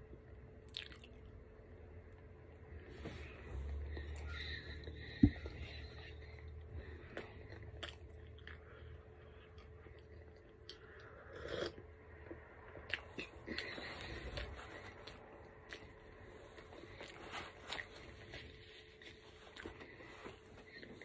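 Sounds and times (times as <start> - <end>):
person chewing: 0.7 - 1.3, 3.9 - 21.0.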